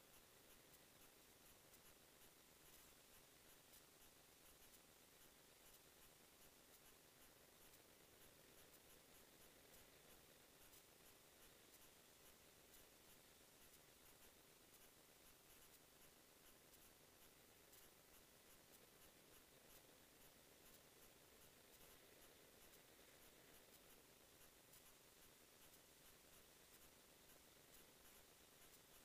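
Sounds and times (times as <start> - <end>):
faint hiss: 0.0 - 29.0
scratchy ticks: 0.0 - 29.0.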